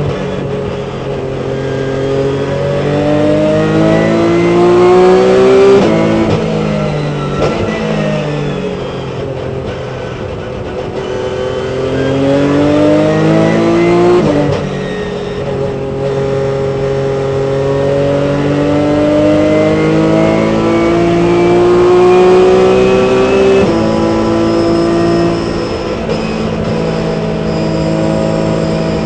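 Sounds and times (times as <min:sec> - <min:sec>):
race car engine accelerating: 0:00.0 - 0:29.0.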